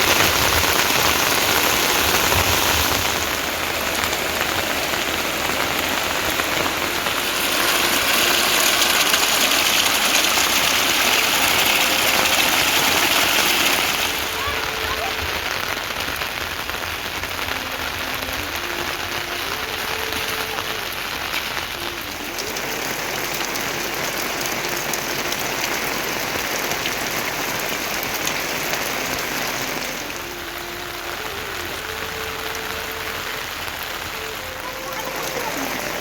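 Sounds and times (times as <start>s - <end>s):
faint long held notes: 0.0s - 36.0s
heavy rain falling: 0.0s - 36.0s.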